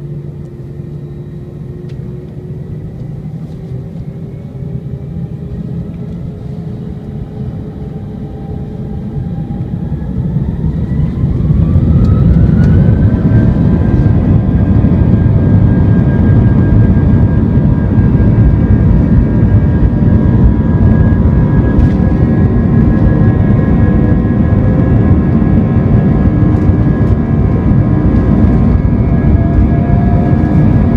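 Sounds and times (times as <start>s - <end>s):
heavy rumble in cabin: 0.0s - 30.9s
jet engine whine: 0.0s - 30.9s.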